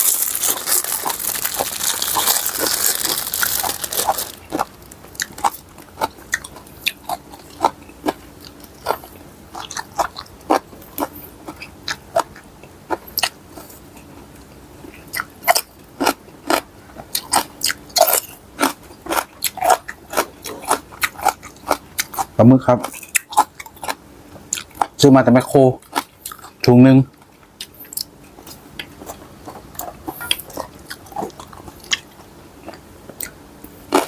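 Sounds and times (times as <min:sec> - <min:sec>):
chewing crunchy food: 0:00.0 - 0:34.0.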